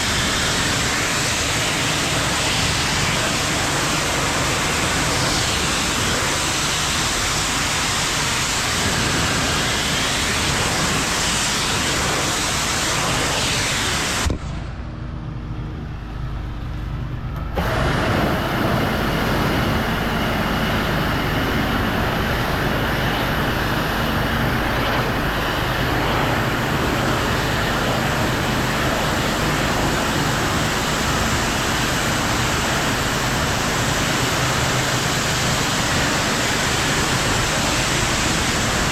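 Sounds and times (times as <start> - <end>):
pressure washer spraying: 0.0 - 14.3, 17.6 - 38.9.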